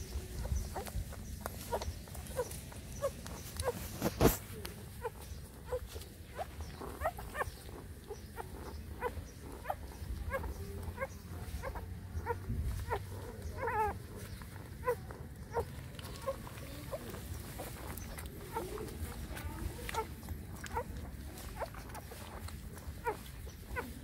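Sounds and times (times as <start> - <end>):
puppies squeaking and whimpering: 0.0 - 24.0.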